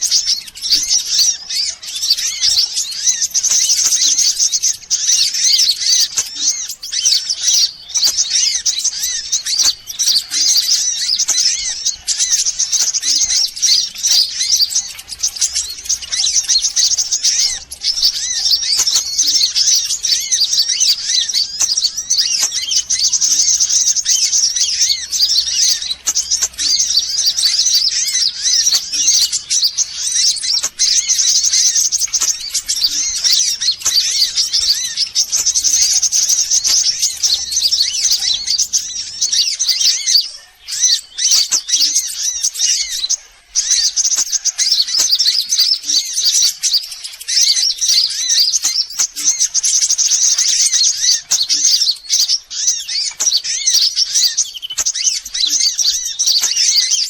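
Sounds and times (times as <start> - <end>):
sunbirds chirping and trilling: 0.0 - 57.0.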